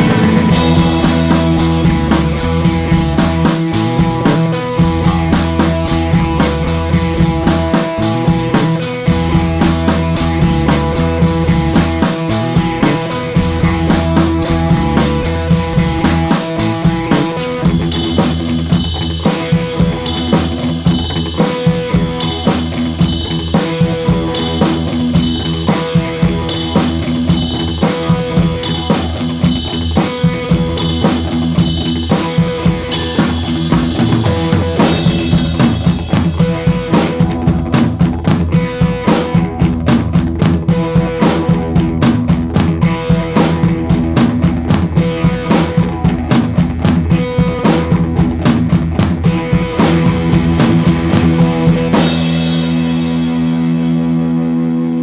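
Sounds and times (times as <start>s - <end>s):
fast drum beat: 0.0s - 54.2s.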